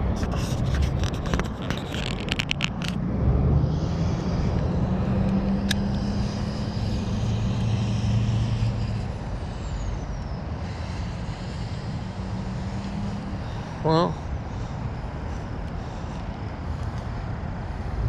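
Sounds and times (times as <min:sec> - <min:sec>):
motor engine humming: 0:02.9 - 0:18.0.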